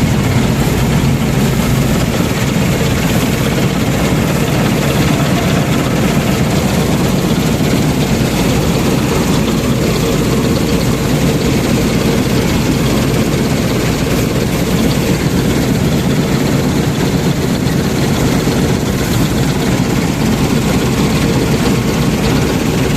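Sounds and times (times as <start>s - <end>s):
combine harvester engine drone: 0.0s - 22.9s.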